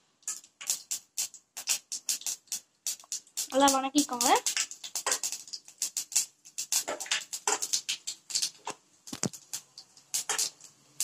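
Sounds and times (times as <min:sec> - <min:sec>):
seeds popping in hot oil: 0:00.1 - 0:11.0.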